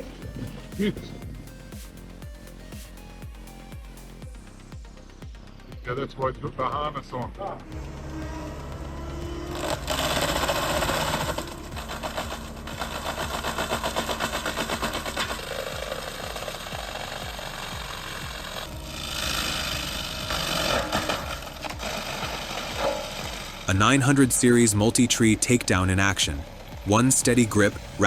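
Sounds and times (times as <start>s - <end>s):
chainsaw running at high revs: 0.0s - 5.3s, 7.6s - 28.0s.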